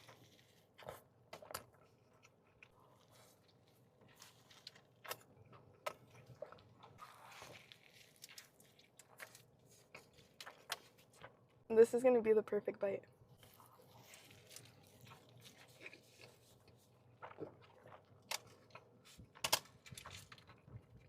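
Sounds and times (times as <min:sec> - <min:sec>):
soft mouth clicks and crunches: 0:00.0 - 0:11.4, 0:13.4 - 0:21.0
person chewing food: 0:00.0 - 0:11.6, 0:13.2 - 0:21.0.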